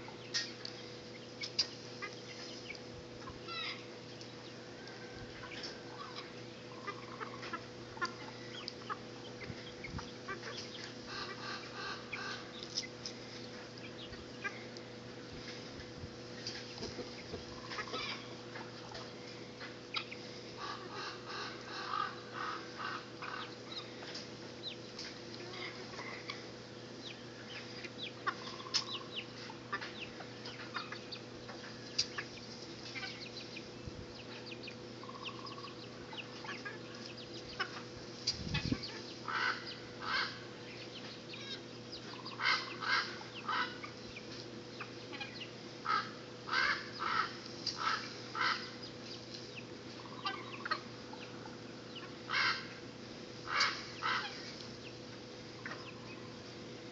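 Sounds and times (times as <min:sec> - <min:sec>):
harsh repeated bird calls: 0:00.0 - 0:04.7, 0:05.4 - 0:14.8, 0:16.9 - 0:56.9
chickens clucking: 0:00.0 - 0:56.9.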